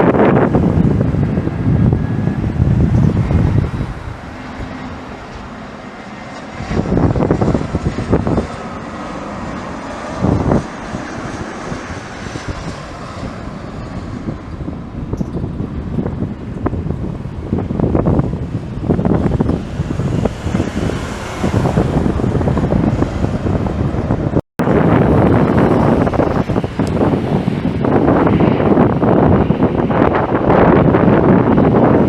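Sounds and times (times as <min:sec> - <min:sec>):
faint turbine whine: 0:00.0 - 0:32.0
jet engines rumbling: 0:00.0 - 0:32.0
wind buffeting microphone: 0:00.0 - 0:32.0.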